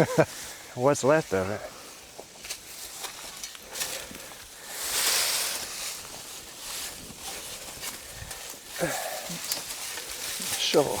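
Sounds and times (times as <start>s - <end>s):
rustling of dry brush and leaves: 0.0s - 11.0s.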